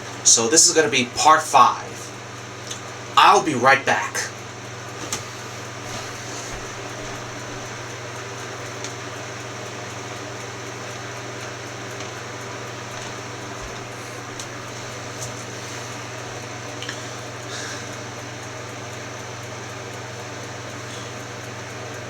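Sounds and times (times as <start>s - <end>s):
room noise hum and hiss: 0.0s - 22.0s.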